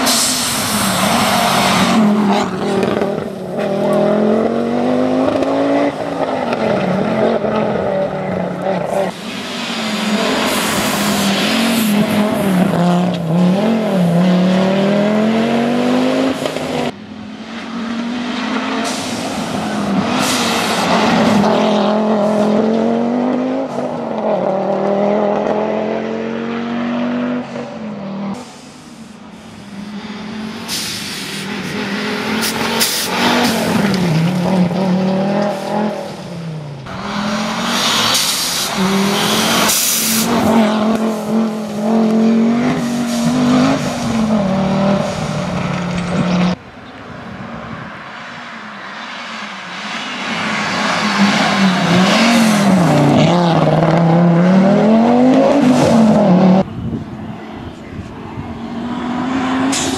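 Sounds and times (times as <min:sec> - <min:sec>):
rally car engine at full throttle: 0:00.0 - 0:59.9.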